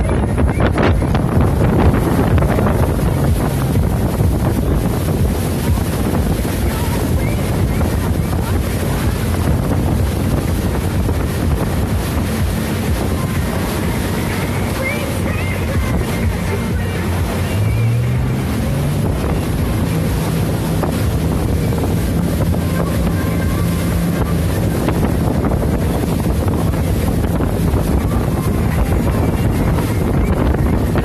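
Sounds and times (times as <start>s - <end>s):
speedboat engine running: 0.0s - 31.0s
water rushing past hull: 0.0s - 31.0s
wind buffeting microphone: 0.0s - 31.0s.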